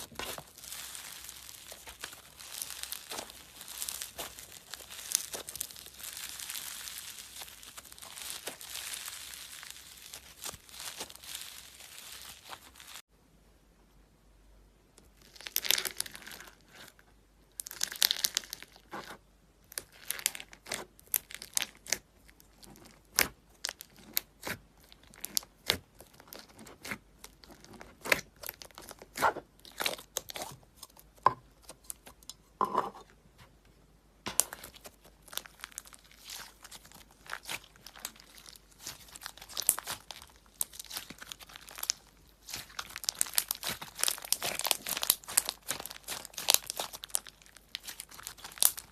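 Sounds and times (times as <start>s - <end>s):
slime popping and crackling: 0.0s - 13.0s, 15.2s - 16.9s, 17.6s - 32.3s, 34.3s - 48.9s.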